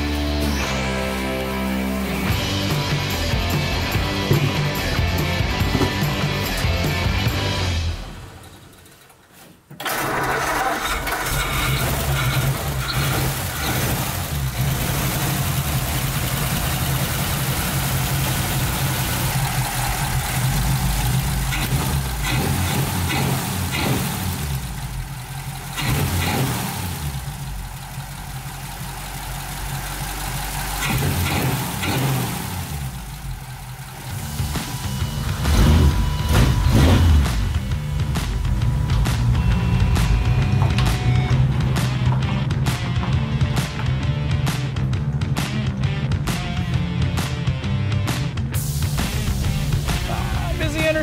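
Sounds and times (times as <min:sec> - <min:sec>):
car engine idling: 0:00.1 - 0:51.0.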